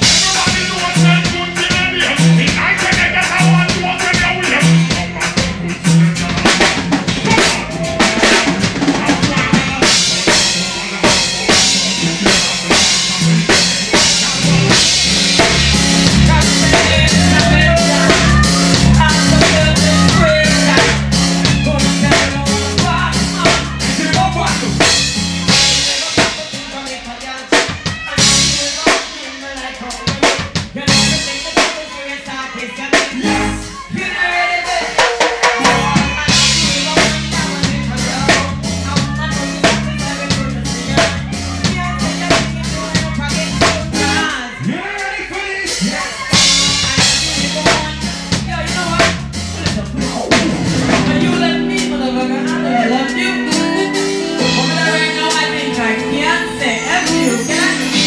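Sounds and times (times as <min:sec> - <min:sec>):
bass line: 0:00.0 - 0:34.9, 0:35.6 - 0:44.8, 0:45.8 - 0:58.0
live reggae band: 0:00.0 - 0:58.0.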